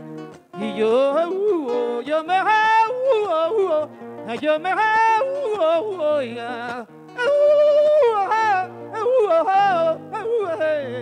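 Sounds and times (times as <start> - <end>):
plucked guitar: 0.0 - 11.0.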